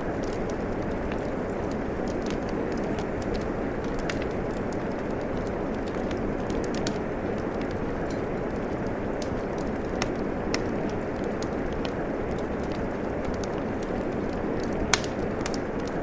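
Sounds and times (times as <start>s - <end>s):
steady rain hiss: 0.0s - 16.0s
wood fire crackling: 0.0s - 16.0s.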